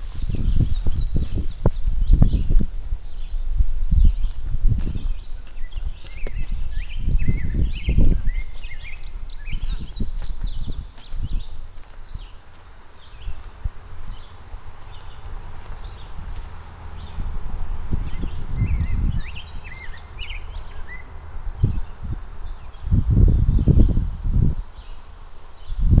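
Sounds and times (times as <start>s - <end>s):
bird chirps: 0.0s - 23.9s
high-pitched insect drone: 0.0s - 26.0s
low rumbling on microphone: 0.0s - 26.0s.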